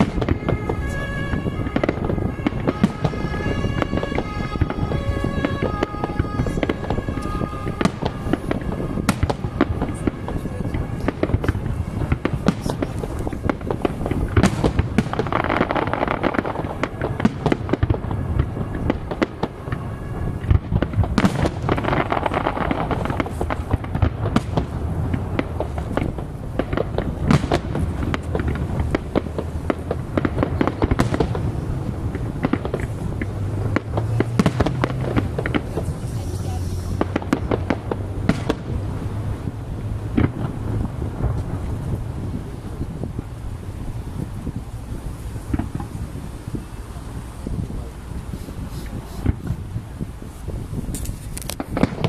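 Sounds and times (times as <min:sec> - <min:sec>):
dense fireworks crackling: 0:00.0 - 0:52.0
fireworks bangs and cracks: 0:00.0 - 0:52.0.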